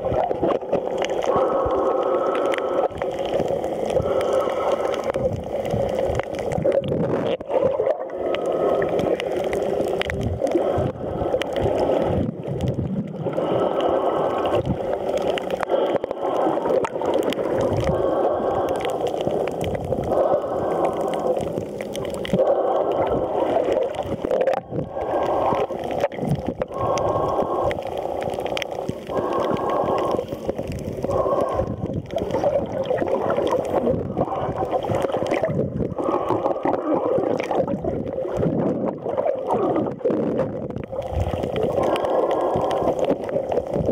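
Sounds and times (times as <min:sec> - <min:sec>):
underwater gurgling and sloshing: 0:00.0 - 0:43.9.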